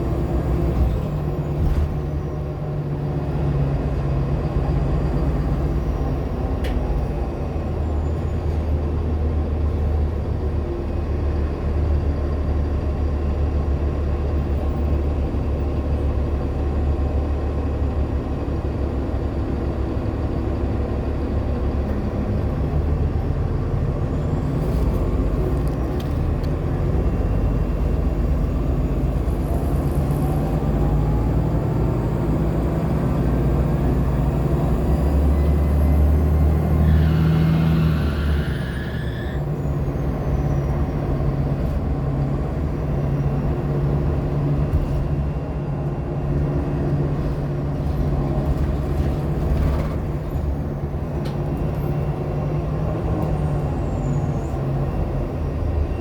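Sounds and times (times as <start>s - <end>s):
bus engine rumbling: 0.0s - 56.0s.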